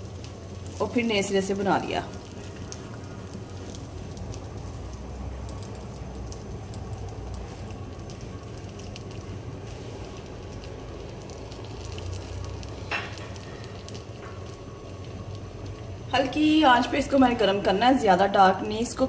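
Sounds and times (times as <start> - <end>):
faint sizzling: 0.0 - 19.0
gas burner hissing: 0.0 - 19.0.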